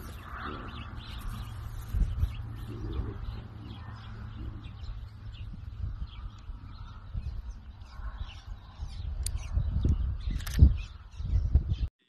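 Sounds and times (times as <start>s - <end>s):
small birds chirping: 0.0s - 11.9s
steady low rumble: 0.0s - 11.9s.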